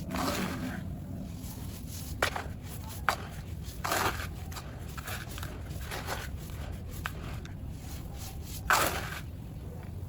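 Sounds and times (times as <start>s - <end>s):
dry clumps crumbling and crunching: 0.0s - 10.0s.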